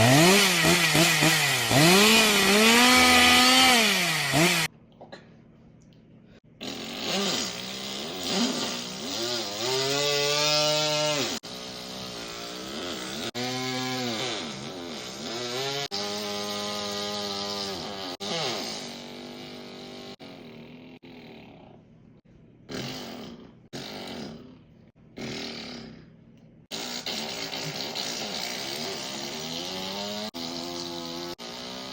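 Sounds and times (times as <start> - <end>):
person imitating chainsaw: 0.0 - 4.7, 6.6 - 21.8, 22.7 - 26.1, 26.7 - 31.9.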